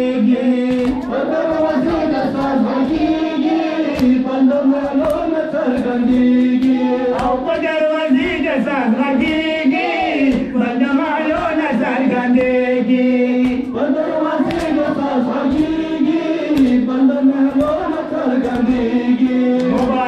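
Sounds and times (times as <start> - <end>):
men chanting into microphones: 0.0 - 20.0
sharp beats: 0.0 - 20.0.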